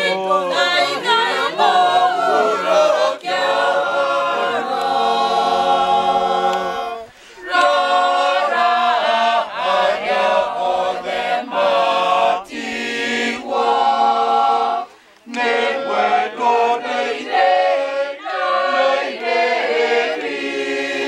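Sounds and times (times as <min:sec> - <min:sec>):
choir singing a cappella hymn: 0:00.0 - 0:21.0.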